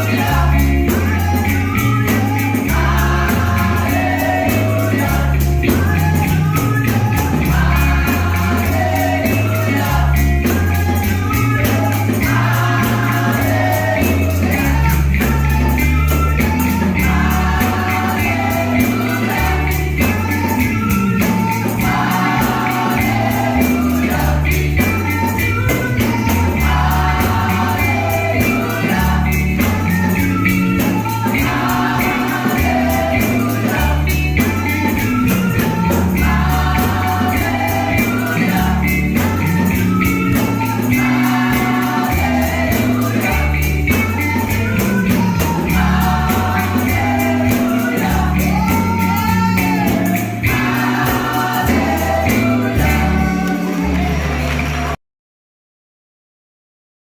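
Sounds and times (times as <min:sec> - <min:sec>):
choir singing gospel music: 0:00.0 - 0:55.0.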